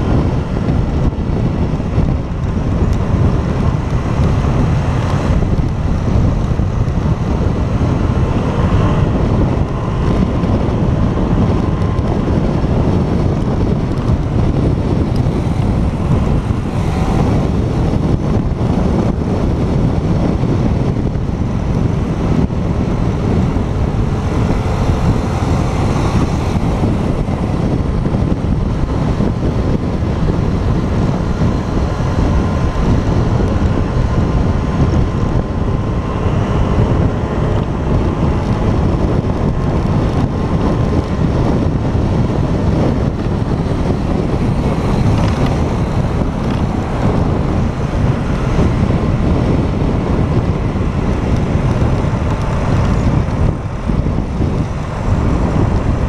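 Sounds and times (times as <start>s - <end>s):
motorcycle engine running: 0.0s - 56.0s
wind rush over microphone: 0.0s - 56.0s.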